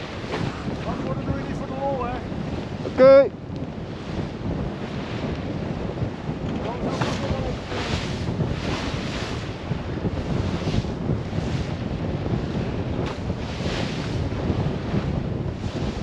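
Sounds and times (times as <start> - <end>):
waves rushing along hull: 0.0 - 16.0
wind buffeting microphone: 0.0 - 16.0.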